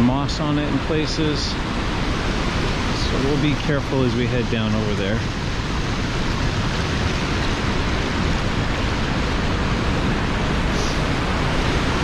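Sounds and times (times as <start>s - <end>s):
large waterfall rushing: 0.0s - 12.0s.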